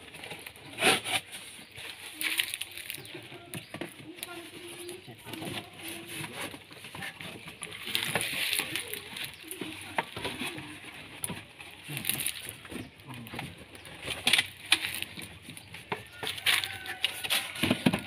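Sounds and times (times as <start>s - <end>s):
cardboard rustling: 0.0s - 18.0s
knocks and scrapes: 0.0s - 18.0s.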